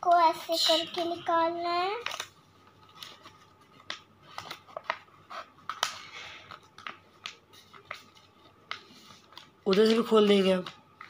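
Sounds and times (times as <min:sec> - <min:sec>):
paper crinkling: 0:00.1 - 0:11.0.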